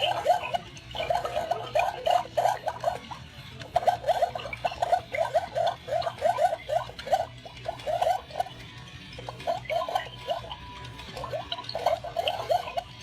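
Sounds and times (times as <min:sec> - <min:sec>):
toy electronic bubbling blips: 0:00.0 - 0:13.0.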